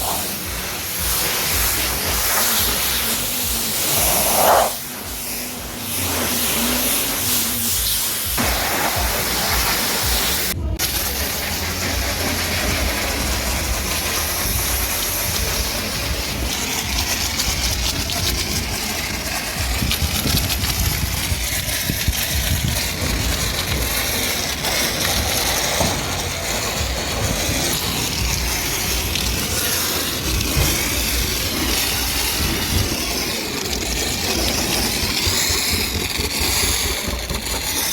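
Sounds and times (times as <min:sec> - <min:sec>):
pressure washer spraying water: 0:00.0 - 0:37.9.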